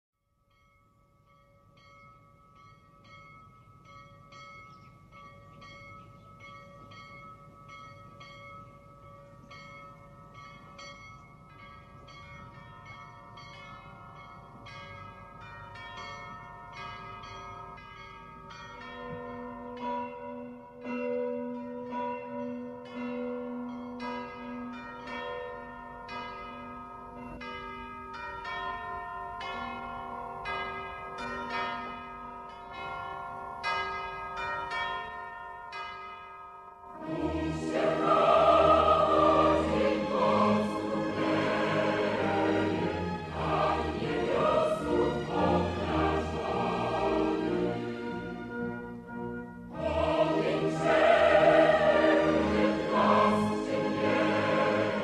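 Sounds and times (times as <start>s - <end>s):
bells ringing: 0.4s - 55.0s.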